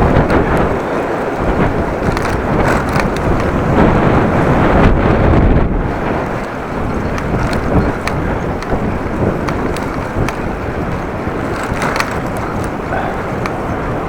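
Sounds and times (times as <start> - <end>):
light ticks: 0.0 - 3.9, 5.9 - 14.0
gusty wind on microphone: 0.0 - 14.0.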